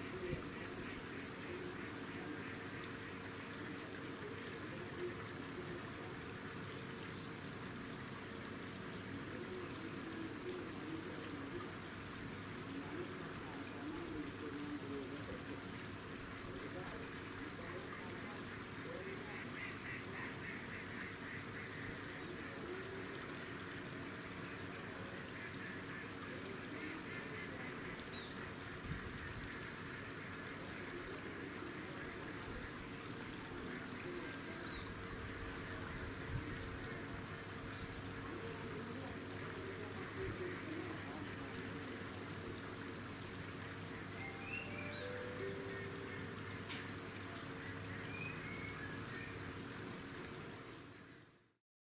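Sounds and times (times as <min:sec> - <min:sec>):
insects buzzing: 0:00.0 - 0:51.4
insects trilling: 0:00.0 - 0:51.4
low insect calls: 0:00.0 - 0:51.6.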